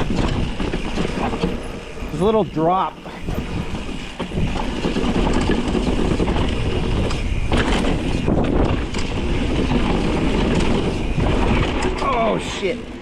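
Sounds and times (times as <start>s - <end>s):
bike rattling: 0.0s - 13.0s
wind buffeting microphone: 0.0s - 13.0s.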